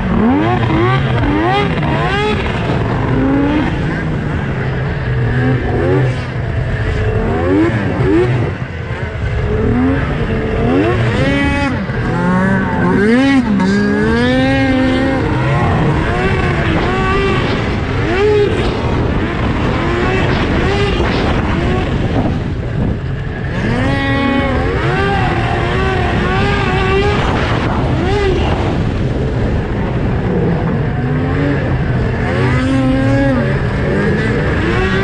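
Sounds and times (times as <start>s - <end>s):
snowmobile engine revving: 0.0s - 35.0s.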